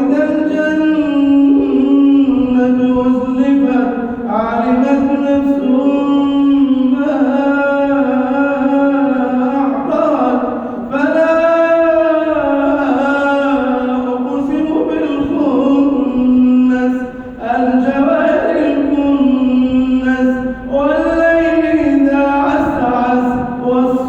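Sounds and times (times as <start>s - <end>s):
man reciting melodically: 0.0s - 24.0s.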